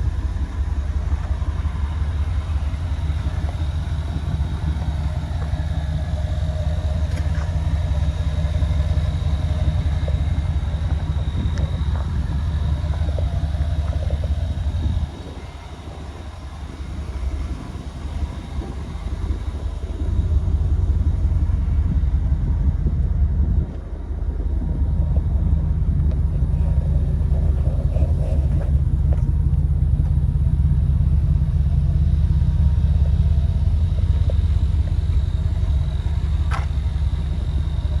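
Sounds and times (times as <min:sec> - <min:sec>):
pickup engine exhaust rumble: 0:00.0 - 0:38.0.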